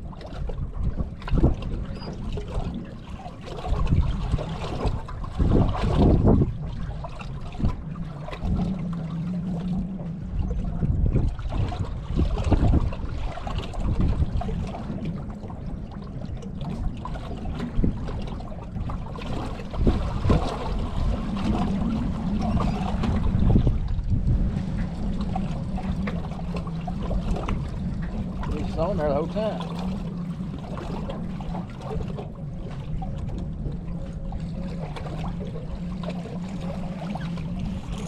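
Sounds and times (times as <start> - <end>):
water lapping against boat hull: 0.0 - 38.0
wind rumbling on microphone: 0.0 - 38.0.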